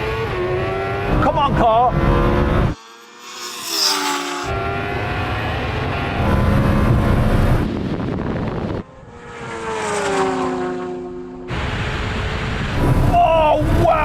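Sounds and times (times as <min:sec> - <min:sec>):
engines racing flat out: 0:00.0 - 0:13.9.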